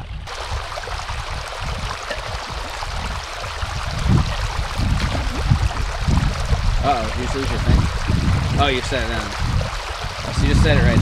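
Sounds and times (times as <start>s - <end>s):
water running through dam: 0.0s - 11.0s
water sloshing and splashing: 0.0s - 11.0s.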